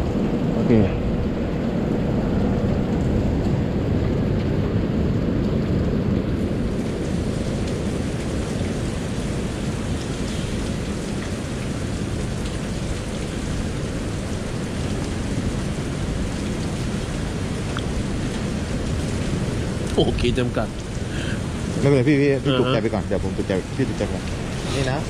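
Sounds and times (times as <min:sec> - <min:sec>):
rain hiss: 0:00.0 - 0:25.0
wind buffeting microphone: 0:00.0 - 0:25.0.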